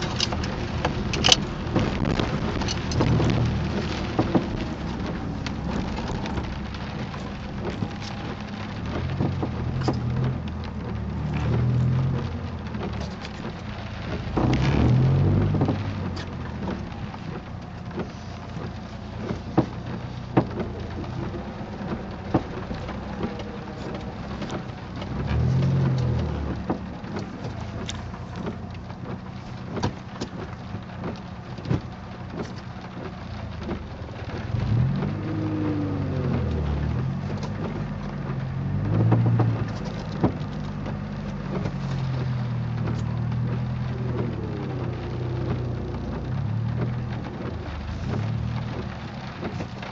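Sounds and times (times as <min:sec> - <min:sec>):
car engine: 0:00.0 - 0:49.9
creaking clicks: 0:00.0 - 0:49.9
road noise: 0:00.0 - 0:49.9.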